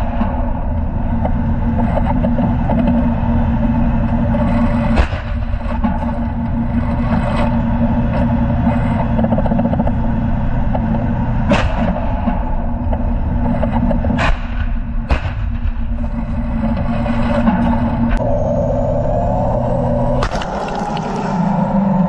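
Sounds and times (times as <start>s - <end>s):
tank engine rumbling: 0.0s - 22.0s.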